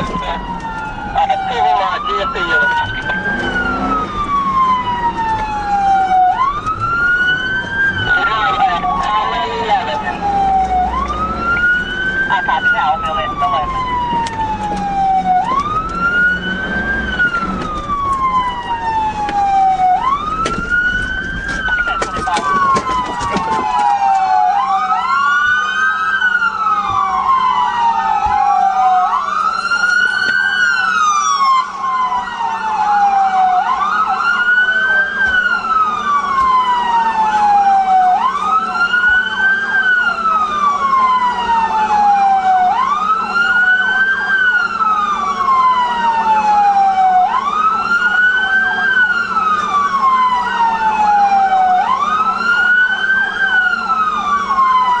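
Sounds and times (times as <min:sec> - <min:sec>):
police siren wailing: 0:00.0 - 0:55.0
second siren wailing: 0:00.0 - 0:55.0.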